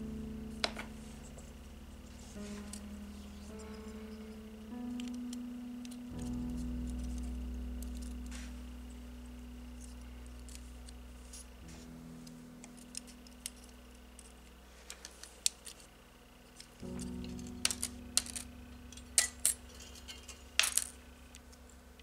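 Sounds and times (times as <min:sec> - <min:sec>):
soft background music: 0:00.0 - 0:14.7, 0:15.4 - 0:22.0.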